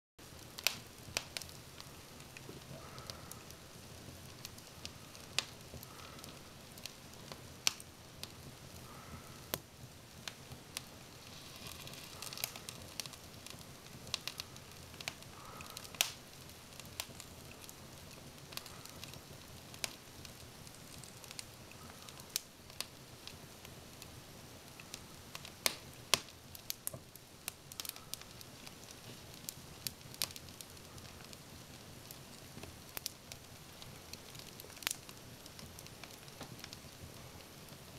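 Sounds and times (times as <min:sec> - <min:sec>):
wood fire crackling: 0:00.2 - 0:37.9.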